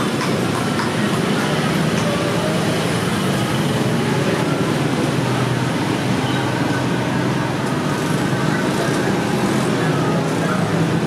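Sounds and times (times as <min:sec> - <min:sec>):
motor traffic passing: 0:00.0 - 0:11.0
motorbikes passing: 0:00.0 - 0:11.0.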